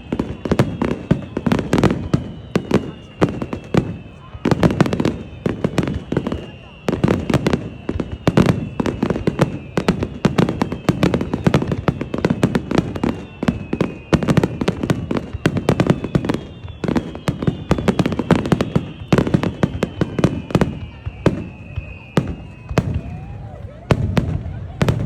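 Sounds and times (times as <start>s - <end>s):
falling firework whistles: 0.0s - 25.0s
fireworks bangs and crackles: 0.0s - 25.0s.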